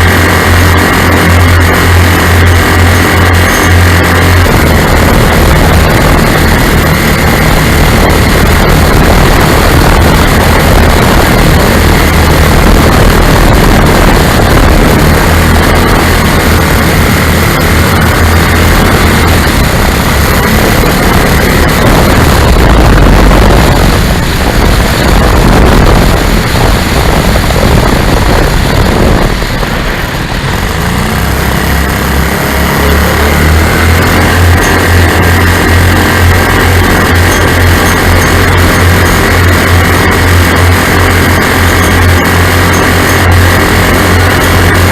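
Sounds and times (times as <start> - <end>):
propeller engines droning: 0.0 - 44.9
wind noise on microphone: 0.0 - 44.9.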